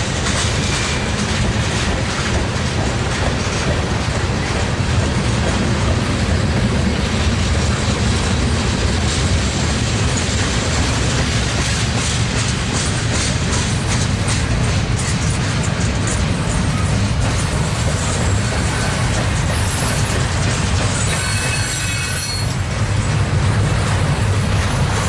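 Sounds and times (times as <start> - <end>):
train wheels clattering over rail joints: 0.0 - 25.0.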